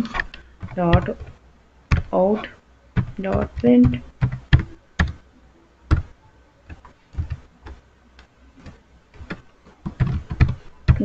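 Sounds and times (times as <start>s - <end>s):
keyboard typing: 0.0s - 2.2s, 3.0s - 5.2s, 5.9s - 7.8s, 8.6s - 11.0s.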